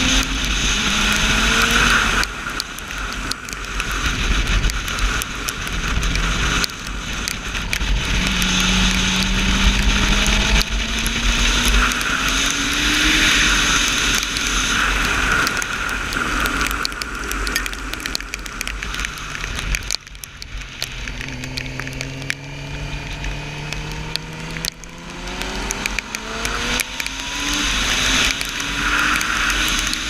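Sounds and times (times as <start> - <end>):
motorcycle engine accelerating: 0.0 - 30.0
rushing wind noise: 0.0 - 30.0.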